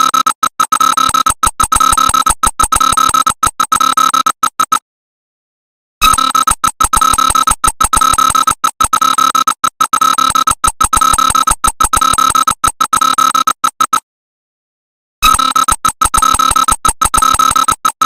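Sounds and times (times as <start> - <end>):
stuttering shrill alarm tone: 0.0 - 4.8, 6.0 - 14.0, 15.2 - 18.0.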